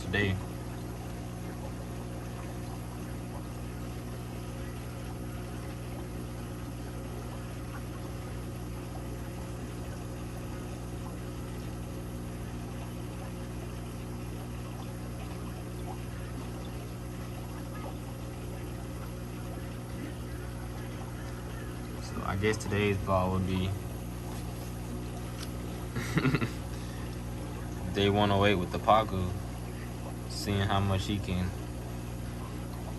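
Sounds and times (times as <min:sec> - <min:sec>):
electrical hum: 0:00.0 - 0:32.9
water bubbling and trickling: 0:00.0 - 0:32.9.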